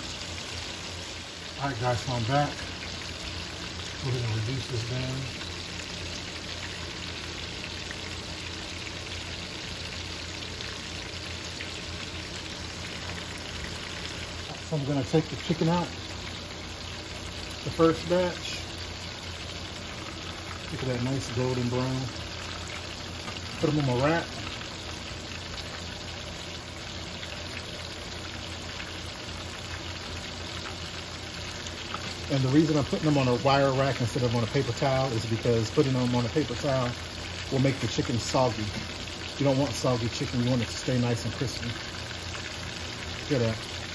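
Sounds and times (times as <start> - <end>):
chicken deep-frying in oil: 0.0 - 43.9.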